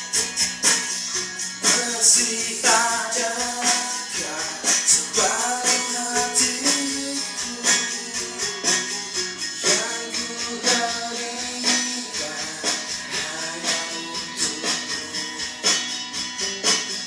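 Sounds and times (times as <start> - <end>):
band playing live: 0.0 - 17.0
tambourine jingling: 0.0 - 17.0
person singing: 1.1 - 17.0.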